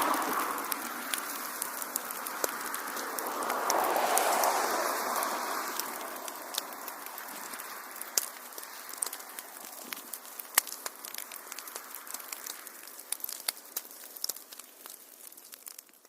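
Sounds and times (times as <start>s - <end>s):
soft rushing of flames: 0.0s - 16.0s
wood fire crackling and popping: 0.0s - 16.0s.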